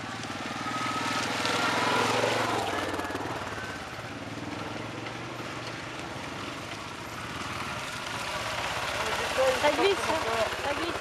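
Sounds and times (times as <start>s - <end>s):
quad bike engines at low speed: 0.0s - 11.0s.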